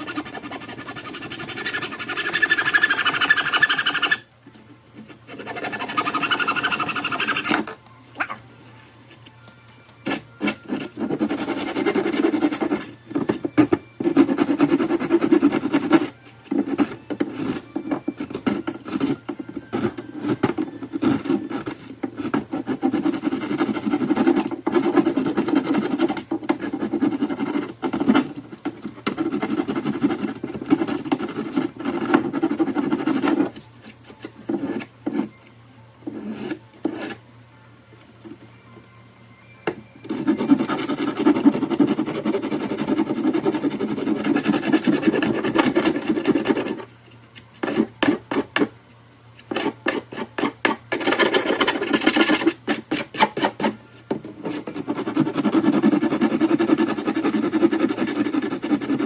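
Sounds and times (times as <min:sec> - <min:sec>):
hand file rasping on plastic: 0:00.0 - 0:04.3, 0:05.0 - 0:07.7, 0:10.0 - 0:35.4, 0:36.0 - 0:37.2, 0:40.0 - 0:47.0, 0:47.6 - 0:48.7, 0:49.4 - 0:59.0.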